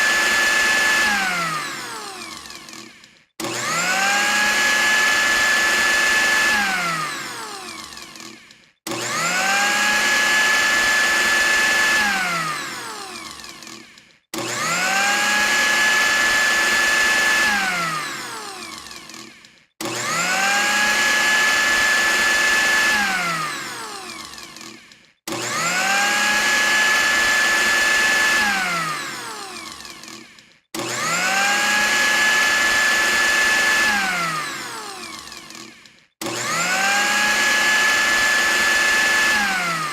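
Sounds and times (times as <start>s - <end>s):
blender motor whining: 0.0s - 39.9s.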